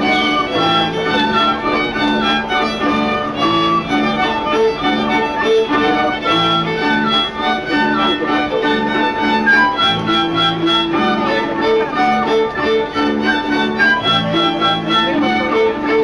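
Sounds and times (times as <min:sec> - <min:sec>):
instrumental folk dance music: 0:00.0 - 0:16.0.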